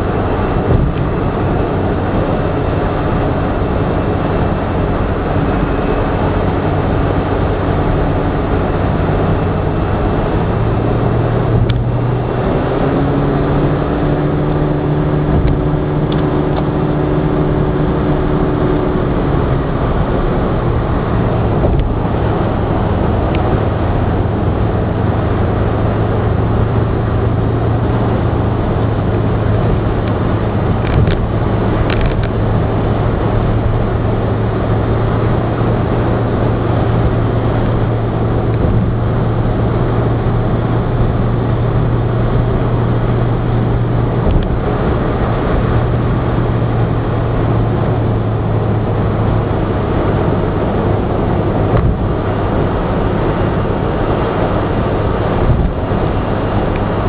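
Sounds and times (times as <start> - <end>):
low engine hum: 0.0 - 57.0
tyre and road noise: 0.0 - 57.0.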